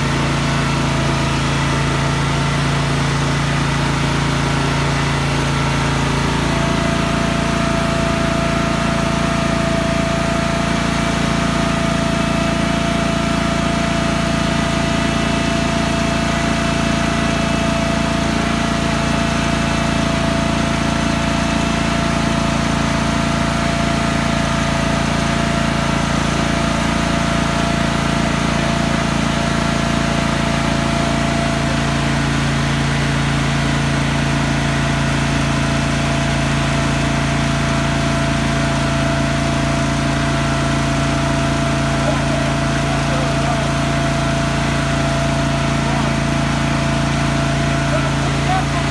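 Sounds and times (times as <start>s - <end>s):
loader engine idling: 0.0s - 48.9s.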